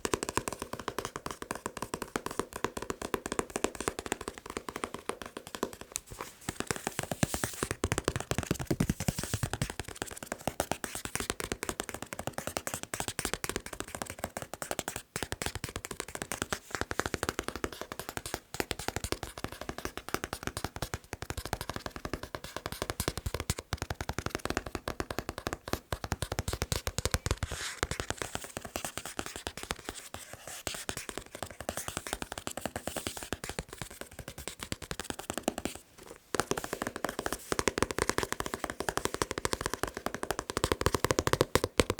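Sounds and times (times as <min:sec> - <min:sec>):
fast tapping on a book: 0:00.0 - 0:41.9.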